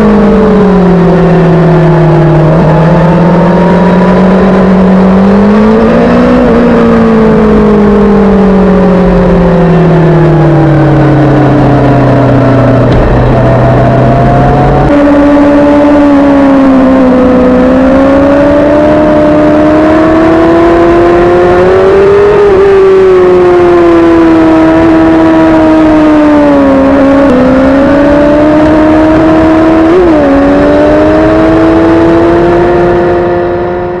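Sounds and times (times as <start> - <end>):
motorcycle engine revving high: 0.0 - 34.0.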